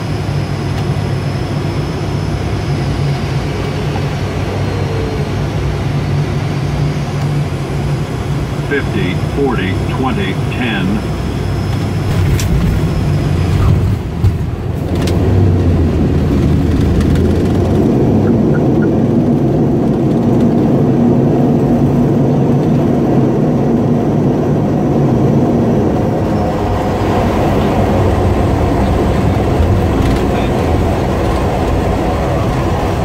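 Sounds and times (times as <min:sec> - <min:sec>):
turboprop engines humming: 0:00.0 - 0:33.0.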